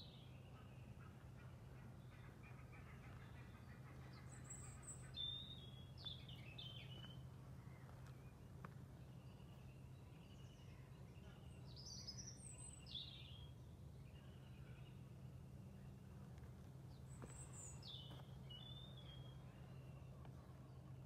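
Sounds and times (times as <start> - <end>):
faint low hum: 0.0 - 21.0
small songbird chirping: 3.2 - 16.1, 16.9 - 20.9.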